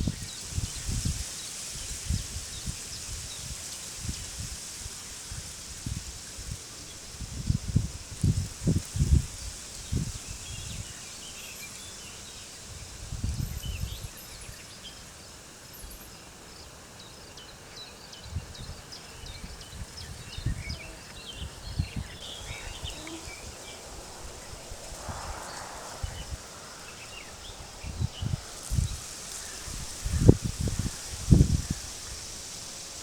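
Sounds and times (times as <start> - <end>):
wind blowing in gusts: 0.0 - 33.0.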